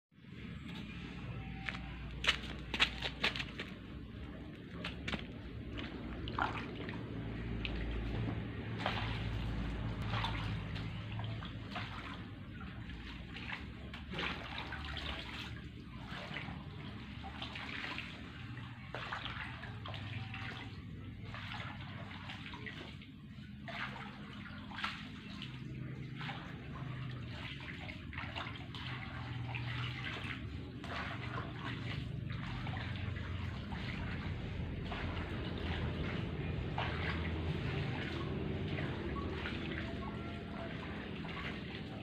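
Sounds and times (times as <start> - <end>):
pond water sloshing and splashing: 0.2 - 42.0
water draining through basket: 0.4 - 42.0.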